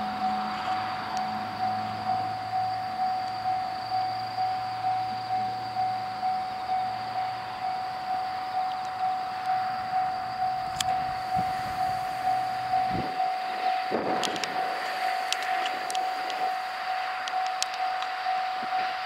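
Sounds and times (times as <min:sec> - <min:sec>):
level crossing warning bell: 0:00.0 - 0:19.0
train clicks: 0:00.0 - 0:19.0
train rumble: 0:00.0 - 0:19.0.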